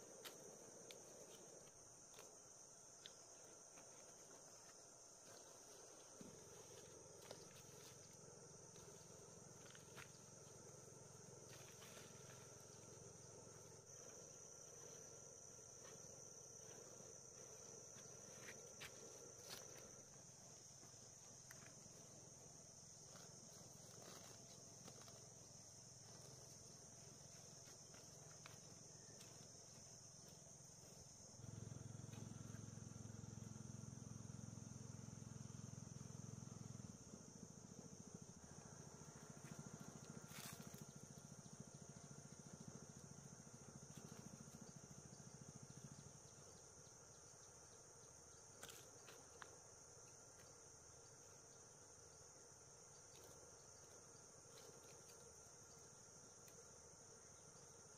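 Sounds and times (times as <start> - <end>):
insects chirring: 0.0 - 57.9.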